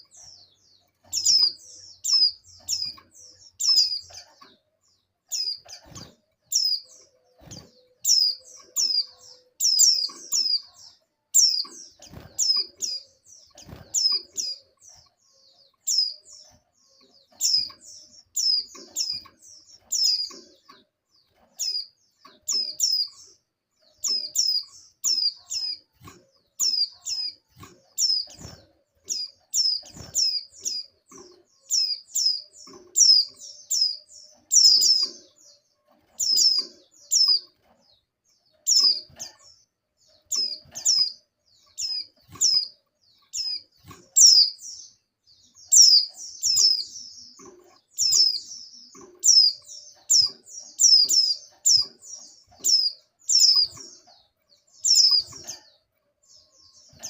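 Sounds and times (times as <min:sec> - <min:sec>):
bird high chirps: 0:00.0 - 0:57.0.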